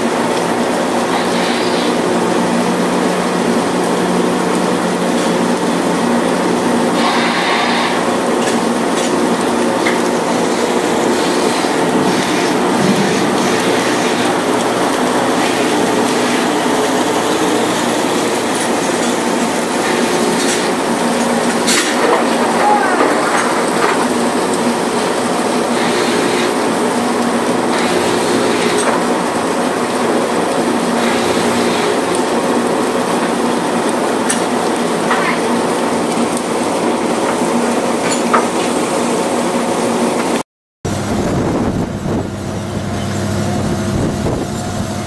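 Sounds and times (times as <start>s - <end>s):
loud machinery drone: 0.0s - 45.0s.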